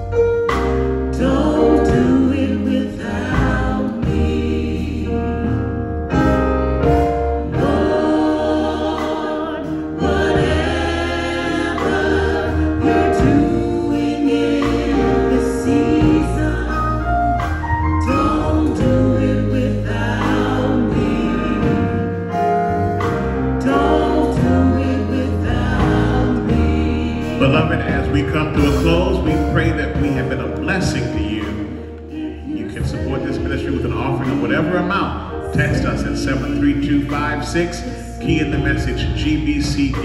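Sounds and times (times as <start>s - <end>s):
gospel choir singing: 0.0s - 40.0s
instrumental backing with low bass: 0.0s - 40.0s.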